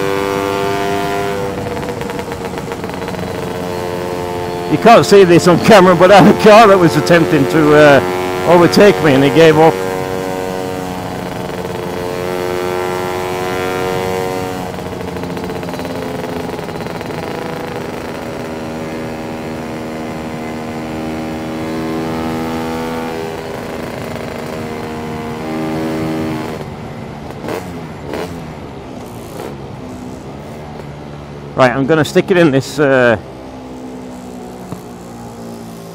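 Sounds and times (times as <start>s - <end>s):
scooter engine under throttle: 0.0s - 30.8s, 33.8s - 35.9s.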